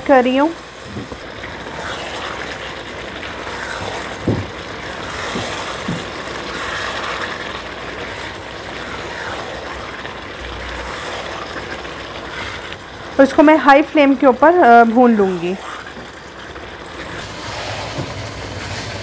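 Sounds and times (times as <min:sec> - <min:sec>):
liver sizzling in pot: 0:00.0 - 0:19.0.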